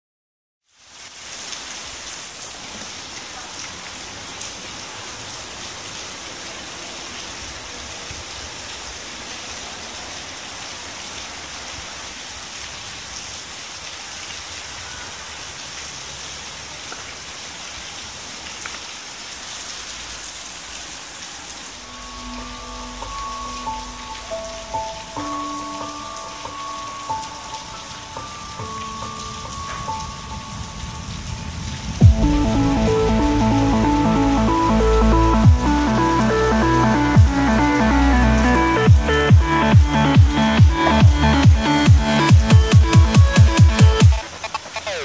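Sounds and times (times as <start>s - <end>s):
rain splashing on pavement: 0.6s - 45.0s.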